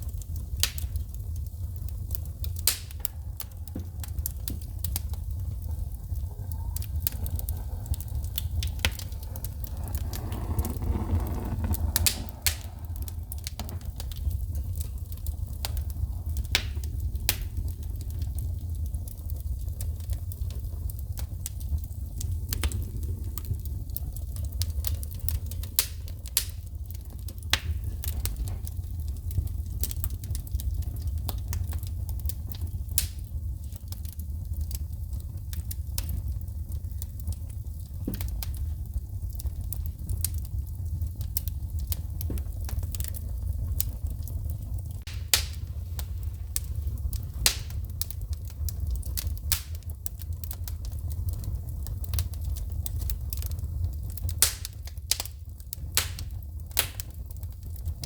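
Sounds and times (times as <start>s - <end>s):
flames rushing: 0.0s - 58.0s
wood fire crackling: 0.0s - 58.0s.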